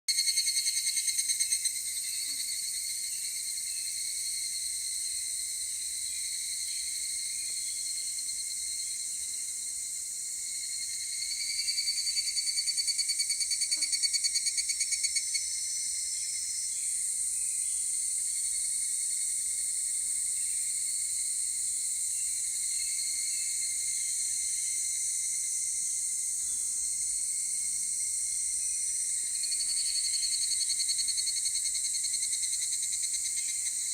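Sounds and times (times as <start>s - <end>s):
cicada chorus: 0.1s - 33.9s
cicada pulsed call: 0.1s - 33.9s.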